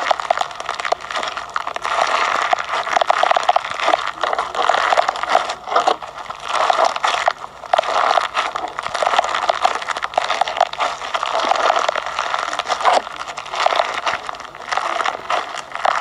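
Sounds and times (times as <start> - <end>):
bead slime crunching and crackling: 0.0 - 16.0.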